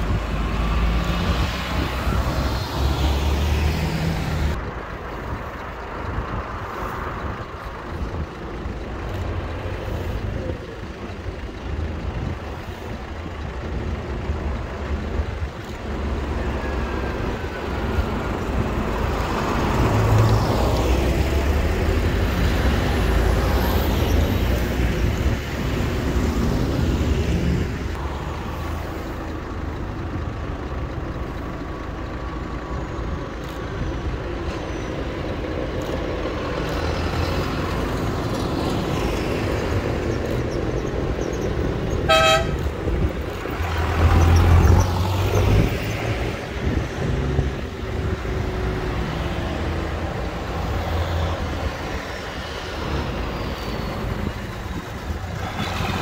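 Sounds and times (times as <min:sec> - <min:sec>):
tractors passing by: 0:00.0 - 0:56.0.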